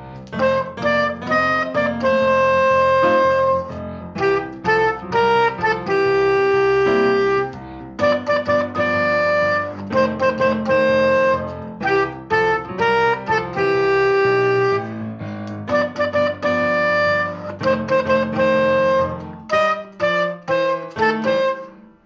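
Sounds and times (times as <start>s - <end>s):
low backing accompaniment: 0.0s - 22.0s
soprano saxophone jazzy melody: 0.0s - 22.0s.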